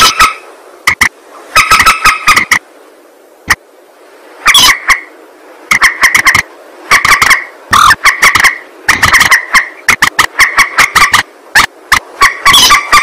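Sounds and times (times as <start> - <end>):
bird call harsh repeated notes: 0.0 - 2.6, 4.4 - 13.0
faint hiss: 0.0 - 13.0.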